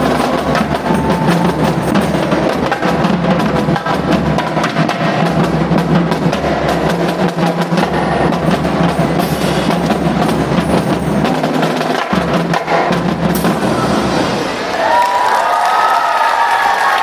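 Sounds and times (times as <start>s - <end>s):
marching drumline playing: 0.0s - 15.1s.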